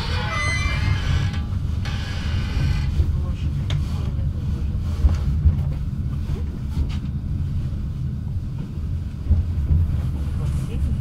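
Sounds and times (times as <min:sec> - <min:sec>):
train carriage rumbling: 0:00.0 - 0:11.0.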